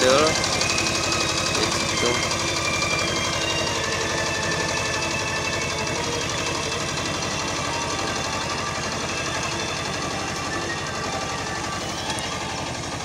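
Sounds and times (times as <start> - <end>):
tractor diesel engine knocking: 0.0 - 13.0.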